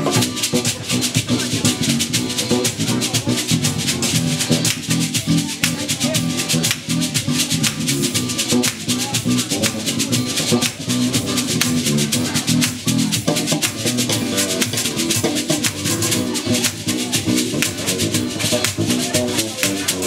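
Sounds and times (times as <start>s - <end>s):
bass guitar line: 0.0s - 20.0s
hand percussion: 0.0s - 20.0s
shaker rhythm: 0.0s - 20.0s.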